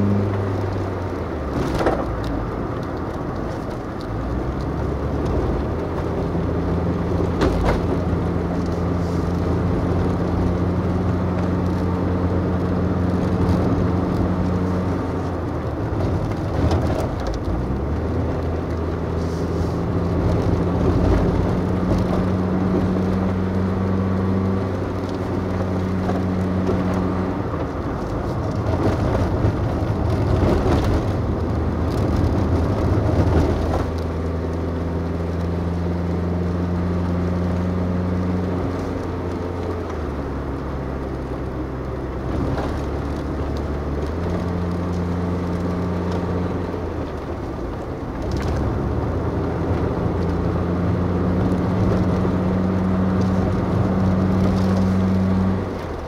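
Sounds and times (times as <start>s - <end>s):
road and tyre noise: 0.0s - 56.0s
vehicle engine running: 0.0s - 56.0s.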